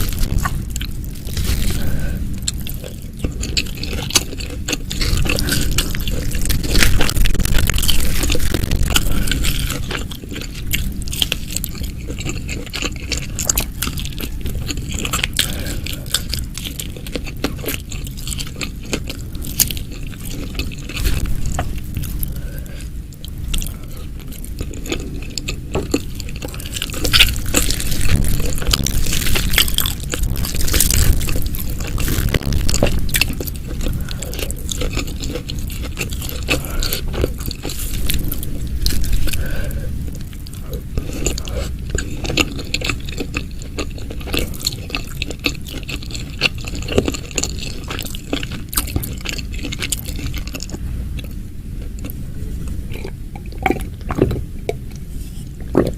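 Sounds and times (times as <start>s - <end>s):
chewing and biting: 0.0s - 52.2s, 52.9s - 55.9s.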